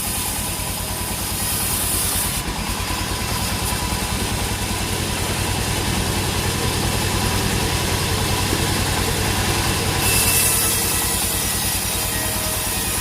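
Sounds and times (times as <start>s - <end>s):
loud high hiss: 0.0s - 13.0s
sawmill engine pulsing: 0.0s - 13.0s.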